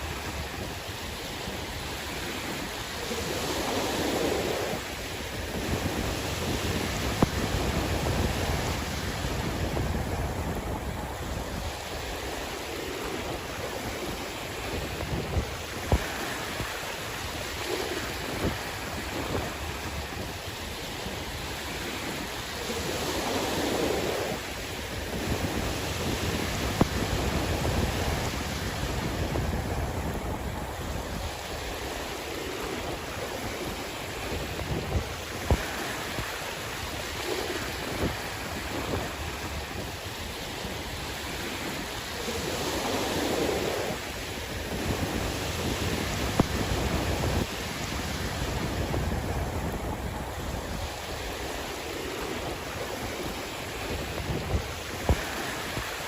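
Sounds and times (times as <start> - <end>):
sea waves washing ashore: 0.0 - 56.0
wind buffeting microphone: 0.0 - 56.0.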